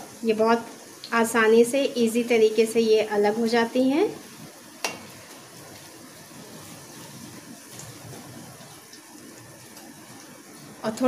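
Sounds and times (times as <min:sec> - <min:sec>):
food deep-frying in sizzling oil: 0:00.0 - 0:11.0.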